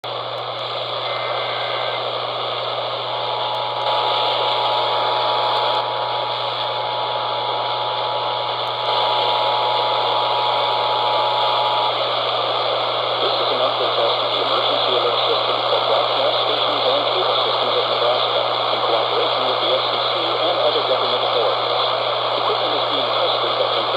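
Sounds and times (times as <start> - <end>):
radio broadcast: 0.0 - 23.9
static hiss and hum: 0.0 - 23.9.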